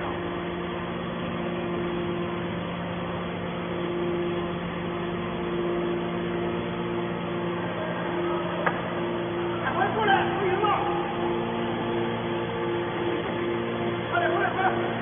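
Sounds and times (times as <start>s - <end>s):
higher machine tone: 0.0s - 15.0s
hydraulic power unit humming: 0.0s - 15.0s.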